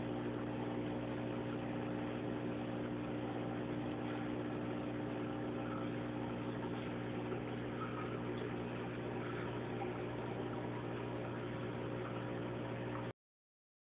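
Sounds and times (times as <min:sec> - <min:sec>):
aquarium filter humming: 0:00.0 - 0:13.2.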